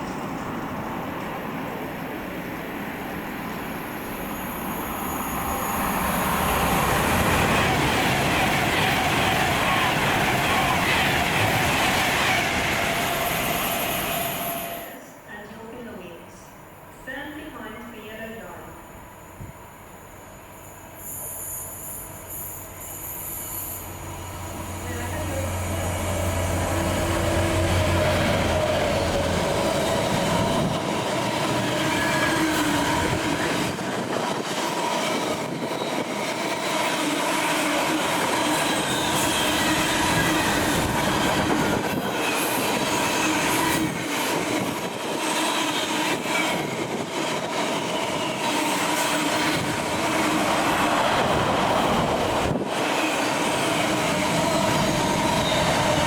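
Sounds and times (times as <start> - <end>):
train running on rails: 0.0 - 56.0
train wheels squealing: 4.2 - 15.0, 19.0 - 56.0.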